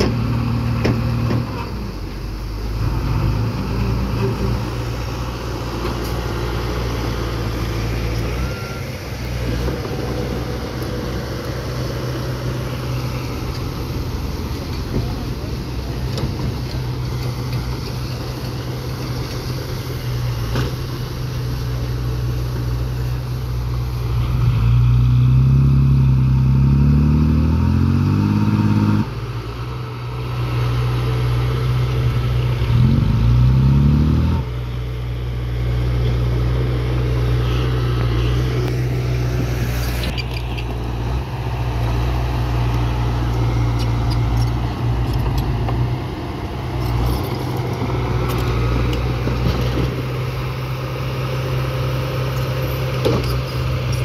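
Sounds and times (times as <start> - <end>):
bulldozer diesel engine running: 0.0 - 54.0
dump truck engine revving: 0.0 - 54.0.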